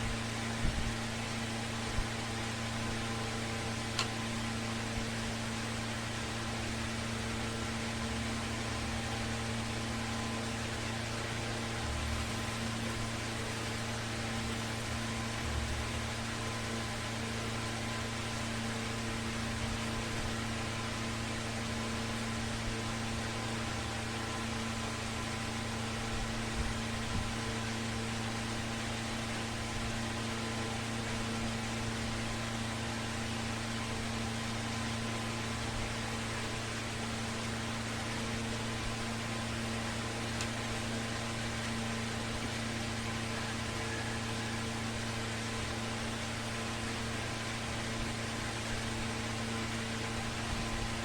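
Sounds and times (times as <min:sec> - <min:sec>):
electric fan running: 0:00.0 - 0:51.0
low electrical hum: 0:00.0 - 0:51.0.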